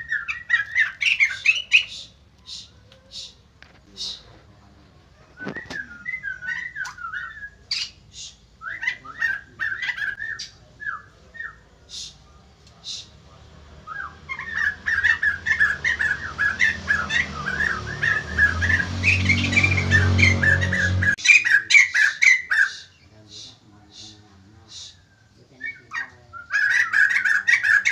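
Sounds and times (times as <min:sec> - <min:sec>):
bird whistling and chattering: 0:00.0 - 0:03.4, 0:04.0 - 0:04.3, 0:05.3 - 0:13.2, 0:13.8 - 0:27.9
other birds calling: 0:00.0 - 0:27.9.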